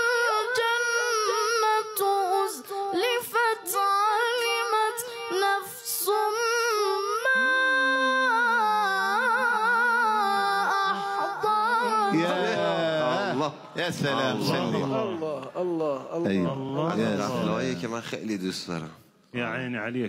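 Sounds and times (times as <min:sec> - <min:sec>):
boy chanting melodically: 0:00.0 - 0:17.6.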